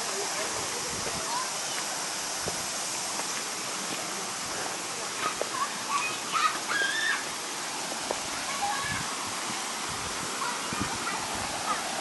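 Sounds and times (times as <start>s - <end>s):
stream flowing over rocks: 0.0s - 12.0s.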